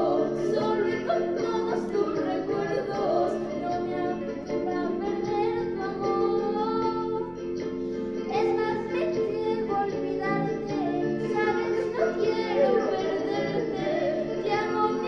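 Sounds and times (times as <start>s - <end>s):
girl singing: 0.0s - 15.0s
instrumental accompaniment: 0.0s - 15.0s.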